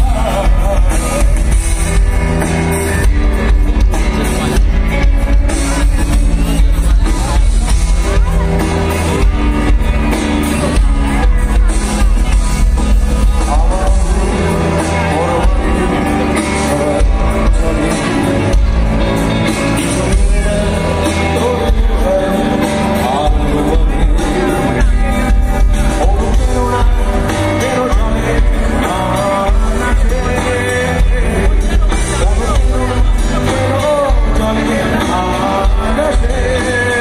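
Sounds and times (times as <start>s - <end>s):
live rock band playing: 0.0s - 37.0s
person singing: 0.0s - 37.0s.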